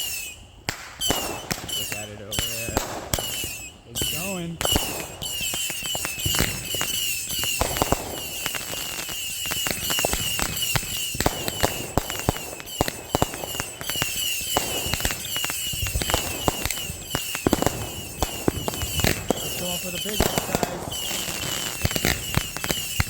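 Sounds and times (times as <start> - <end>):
fireworks bangs and crackling pops: 0.0 - 23.0.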